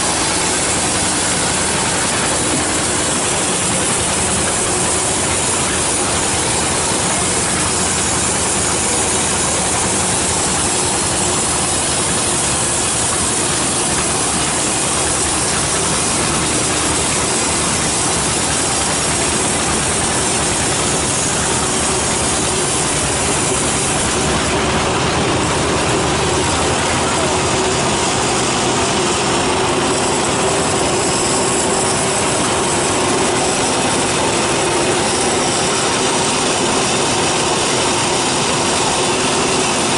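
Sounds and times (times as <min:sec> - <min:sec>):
band saw sawing log: 0:00.0 - 0:39.9.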